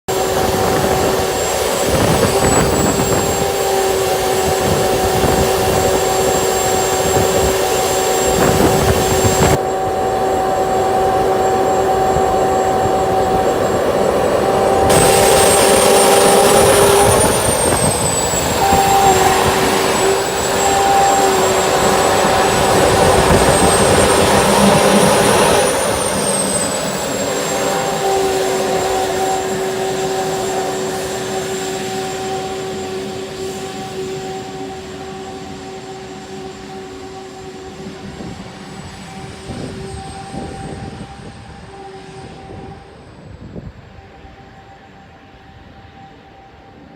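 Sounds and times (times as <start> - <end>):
jet turbine whine: 0.0 - 46.9.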